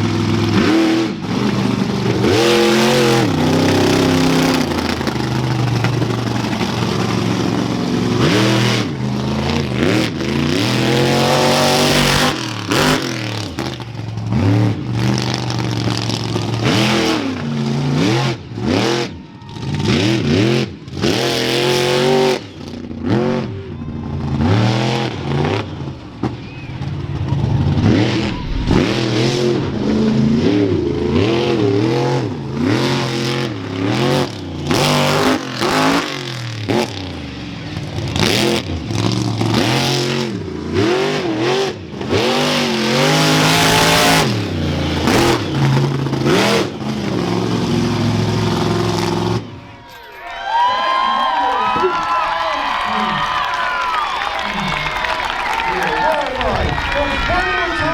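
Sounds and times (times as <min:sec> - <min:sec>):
truck engine revving: 0:00.0 - 0:49.7, 0:52.7 - 0:57.9.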